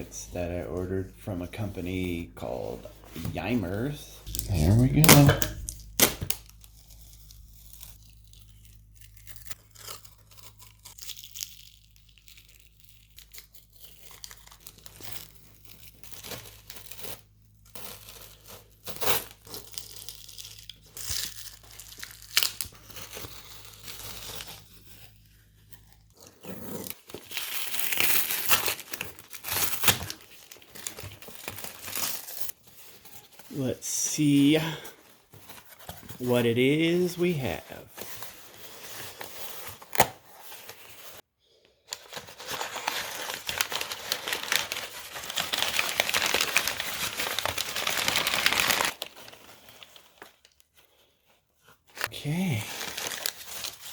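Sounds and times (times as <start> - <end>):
packaging tearing and crinkling: 3.3 - 33.6, 34.2 - 41.2, 41.9 - 51.0, 51.9 - 53.9.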